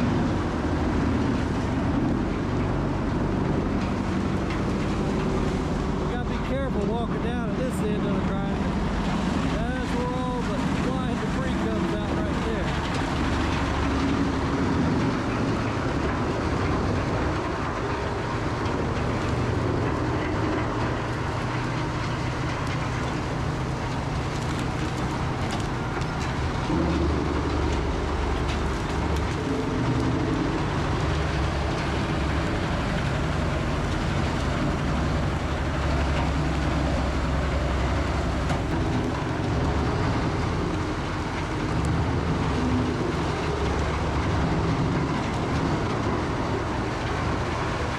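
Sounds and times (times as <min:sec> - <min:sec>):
wood grinder rumbling: 0:00.0 - 0:47.9.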